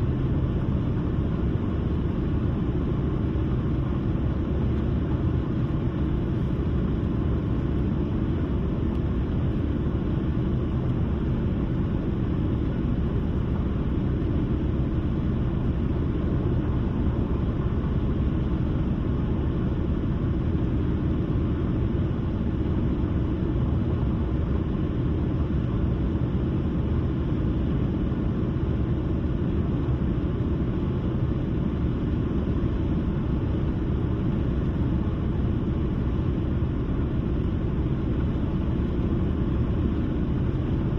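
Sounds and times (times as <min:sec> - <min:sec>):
car road noise rumble: 0:00.0 - 0:40.9.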